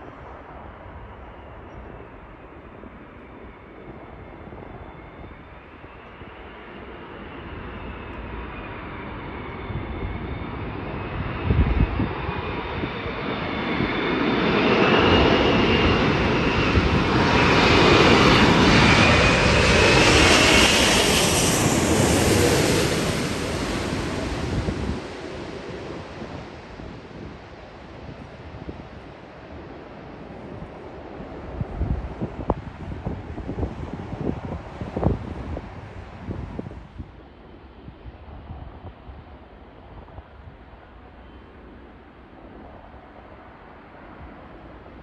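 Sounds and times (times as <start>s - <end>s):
jet airliner passing overhead: 0.0s - 45.0s.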